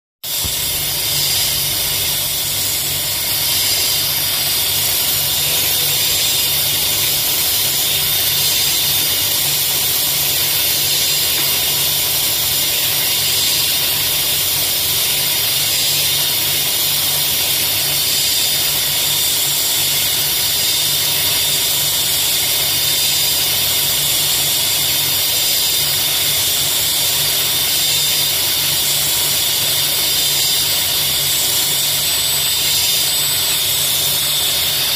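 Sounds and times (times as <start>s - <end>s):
laser cutting machine hiss: 0.2s - 34.9s.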